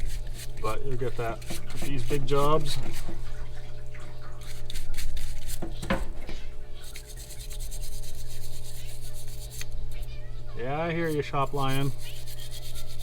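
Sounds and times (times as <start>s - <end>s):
scrubbing on small metal cover: 0.0s - 3.8s, 4.4s - 5.9s, 6.8s - 10.0s, 10.8s - 13.0s
steady low hum: 0.0s - 13.0s.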